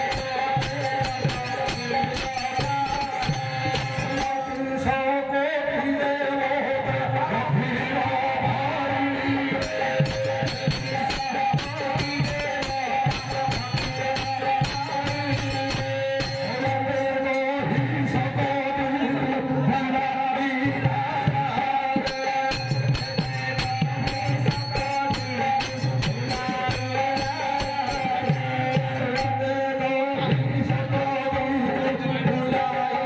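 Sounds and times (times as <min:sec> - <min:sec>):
jingling percussion: 0:00.0 - 0:05.1, 0:09.5 - 0:18.5, 0:20.6 - 0:33.0.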